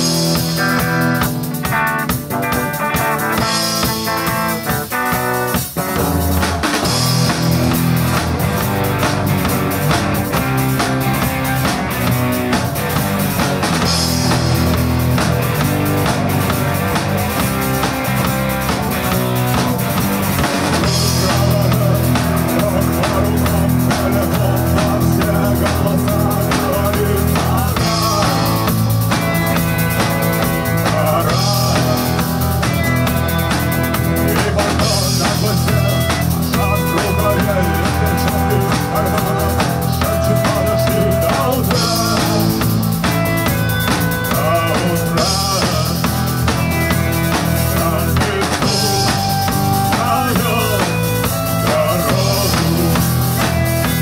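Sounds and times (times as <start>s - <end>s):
bass: 0.0s - 54.0s
drum kit: 0.0s - 54.0s.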